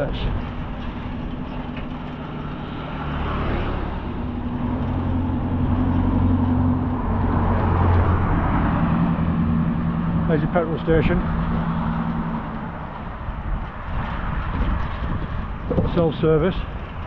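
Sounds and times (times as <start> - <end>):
road noise rushing: 0.0 - 17.0
vehicle engine humming: 0.0 - 17.0.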